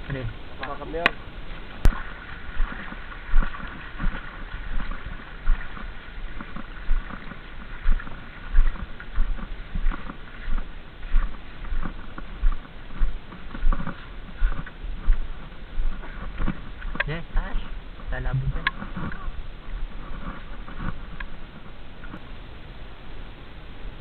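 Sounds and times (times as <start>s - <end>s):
footsteps in shallow water: 0.0s - 22.2s.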